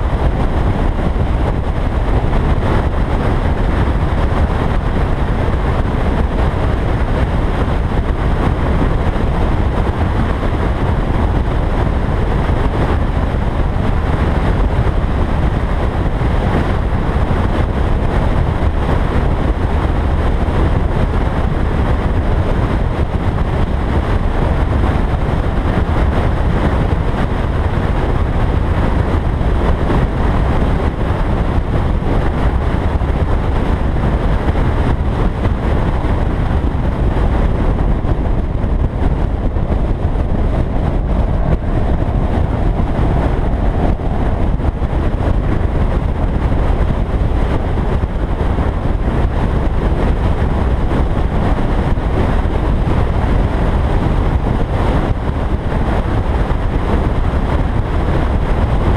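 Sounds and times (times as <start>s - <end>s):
wind and road noise rumble: 0.0s - 58.9s.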